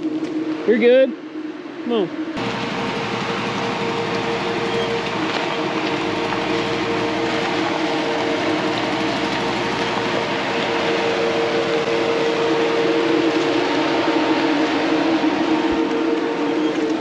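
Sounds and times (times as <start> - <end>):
suv engine droning: 0.0 - 17.0.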